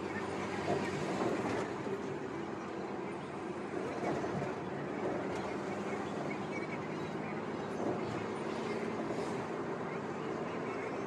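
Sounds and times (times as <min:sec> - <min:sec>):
coach engine drone: 0:00.0 - 0:11.0
tyre and road noise: 0:00.0 - 0:11.0.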